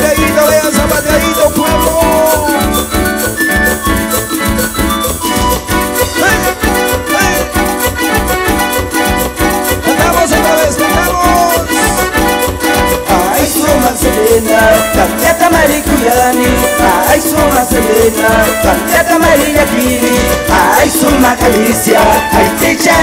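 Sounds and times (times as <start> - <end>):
live dance music: 0.0 - 23.0.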